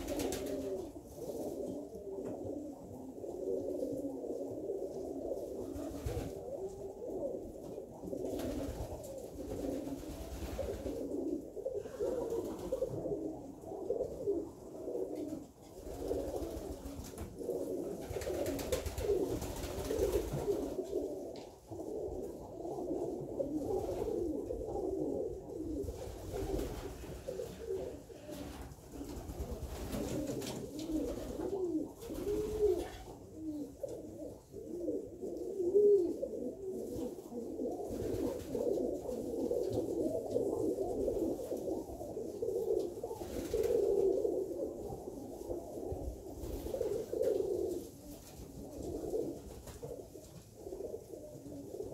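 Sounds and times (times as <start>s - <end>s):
pigeons cooing: 0.0s - 51.9s.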